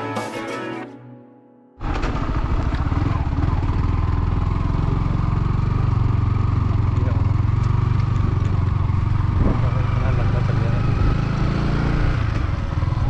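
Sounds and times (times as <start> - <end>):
motorcycle engine running: 1.8 - 13.0.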